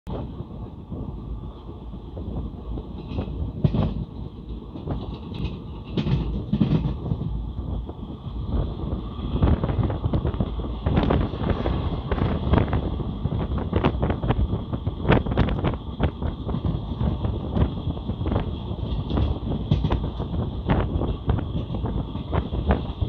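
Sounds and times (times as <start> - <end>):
train rumbling: 0.0 - 23.0
clattering knocks of train: 0.1 - 23.0
wind buffeting microphone: 0.1 - 23.0.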